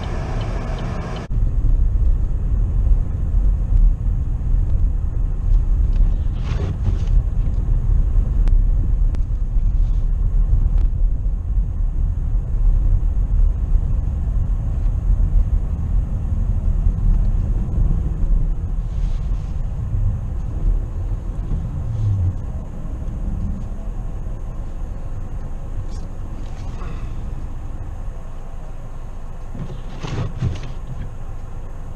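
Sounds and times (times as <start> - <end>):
car driving on snowy road: 0.0 - 31.9.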